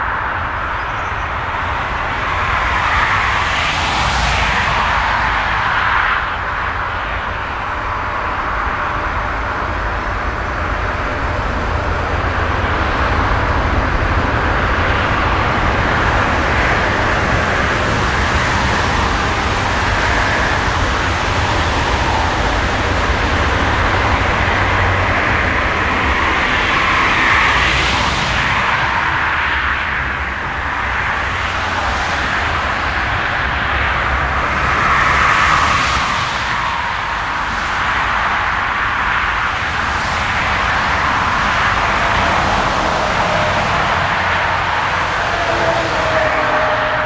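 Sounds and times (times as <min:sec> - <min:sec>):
jet engines hissing and rumbling: 0:00.0 - 0:47.0.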